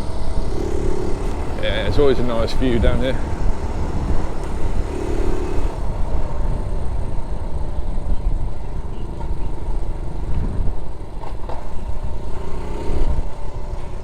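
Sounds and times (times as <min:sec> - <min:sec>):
small motorcycle engine running: 0:00.0 - 0:14.0
wind rumble on microphone: 0:00.0 - 0:14.0.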